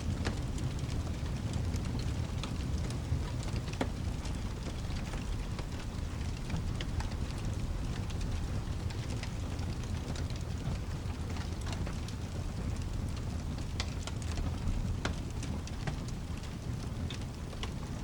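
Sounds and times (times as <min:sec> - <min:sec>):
low continuous rumble: 0:00.0 - 0:18.0
steady rain: 0:00.0 - 0:18.0
wood fire crackling: 0:00.0 - 0:18.0.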